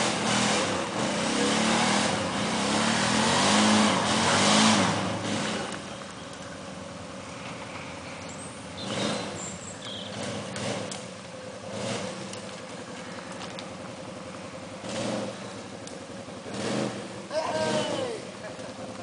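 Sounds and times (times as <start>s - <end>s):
off-road vehicle engine surging: 0.0s - 19.0s.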